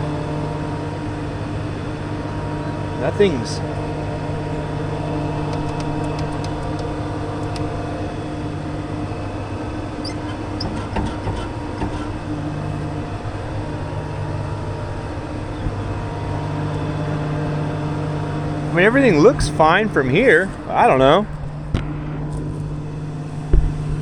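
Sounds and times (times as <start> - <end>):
engine running with even hum: 0.0 - 24.0.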